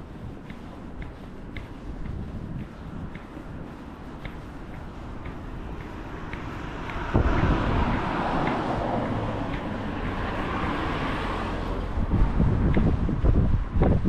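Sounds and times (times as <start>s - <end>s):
vehicle passing: 0.0s - 13.9s
wind buffeting microphone: 0.0s - 14.0s.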